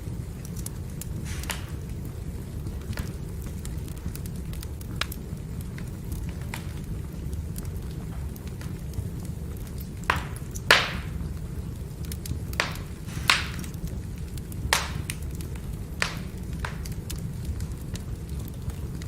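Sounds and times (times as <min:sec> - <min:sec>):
firewood burning with crackles: 0:00.0 - 0:19.0.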